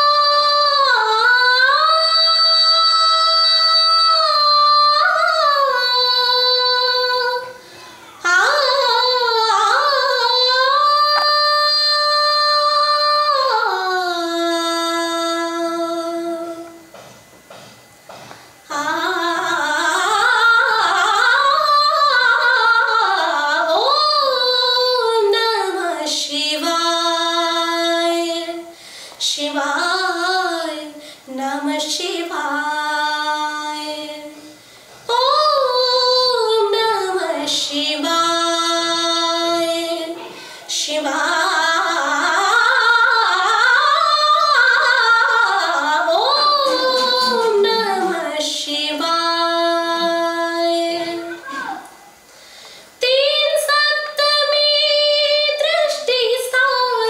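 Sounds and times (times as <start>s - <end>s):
woman singing: 0.0s - 7.6s, 8.2s - 16.9s, 18.7s - 51.8s, 53.0s - 57.0s.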